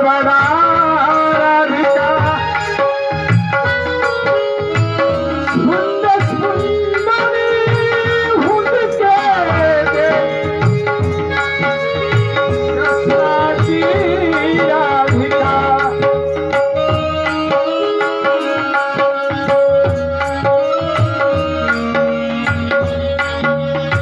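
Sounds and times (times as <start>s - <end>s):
long held instrumental notes: 0.0s - 24.0s
tabla beat: 0.0s - 24.0s.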